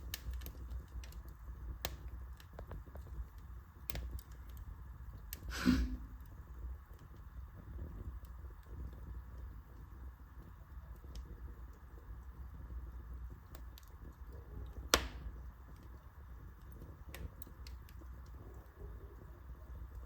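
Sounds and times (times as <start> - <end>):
burning wood popping: 0.0 - 20.0
fire rumbling and crackling: 0.0 - 20.0.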